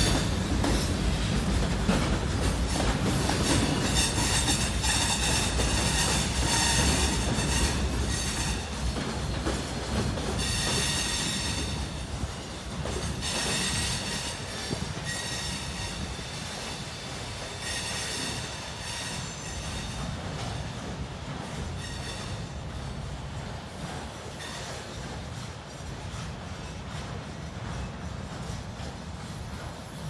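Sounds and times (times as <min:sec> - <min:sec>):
freight train rumble: 0:00.0 - 0:30.0
train wheels squealing on rails: 0:00.0 - 0:30.0.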